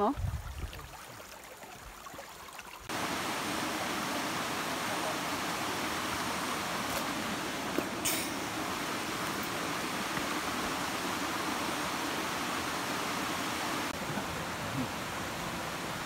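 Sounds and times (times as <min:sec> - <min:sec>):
mountain stream rushing: 0:00.8 - 0:16.0.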